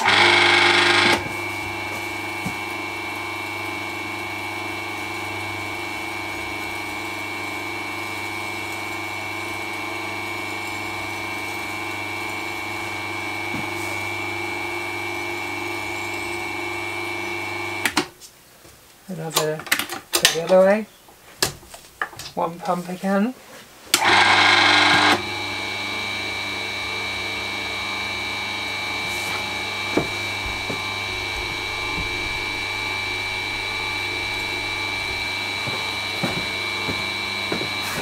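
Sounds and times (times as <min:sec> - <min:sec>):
electric motor whining and humming: 0:00.0 - 0:18.0, 0:24.0 - 0:38.0.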